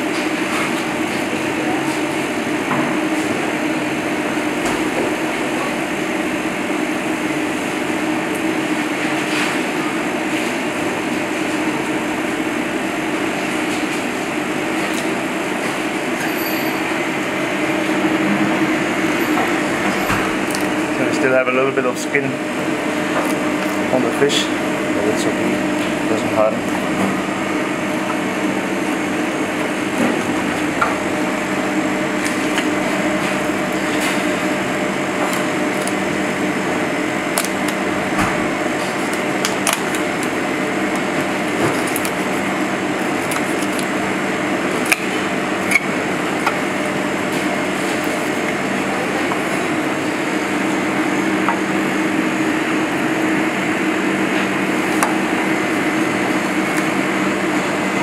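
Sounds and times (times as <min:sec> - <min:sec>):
kitchen ventilation hum: 0:00.0 - 0:58.0.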